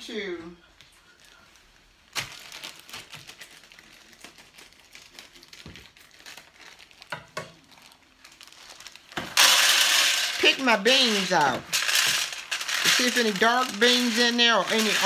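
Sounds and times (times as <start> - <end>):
plastic bag of beans crinkling: 1.0 - 15.0.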